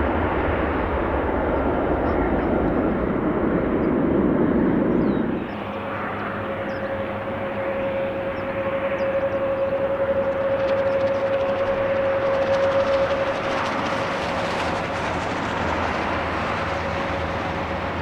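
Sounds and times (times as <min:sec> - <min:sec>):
airplane engine roar: 0:00.0 - 0:18.0
airplane engine whine: 0:00.0 - 0:18.0.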